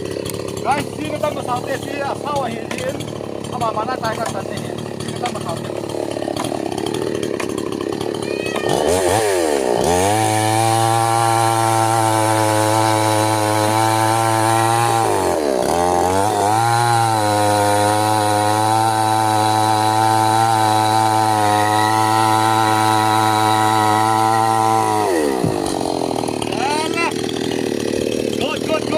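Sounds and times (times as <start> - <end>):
chainsaw engine revving: 0.0 - 28.9.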